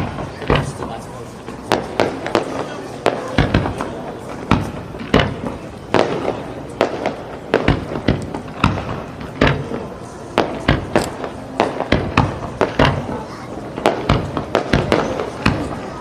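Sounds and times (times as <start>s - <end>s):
fireworks bursting with echoing bangs: 0.0s - 16.0s.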